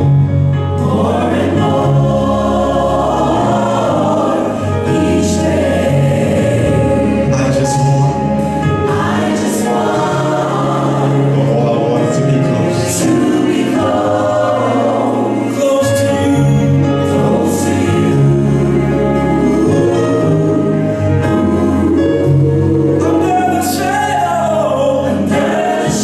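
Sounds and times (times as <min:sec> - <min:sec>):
choir singing gospel: 0:00.0 - 0:26.0.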